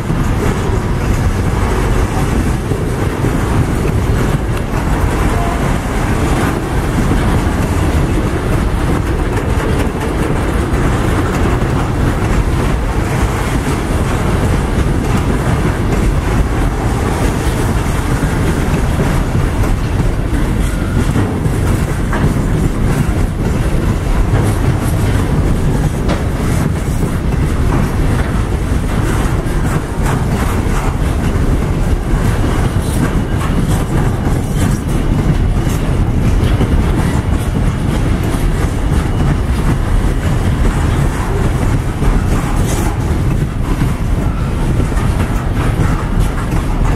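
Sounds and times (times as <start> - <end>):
wheels clicking over rail joints: 0.0 - 46.9.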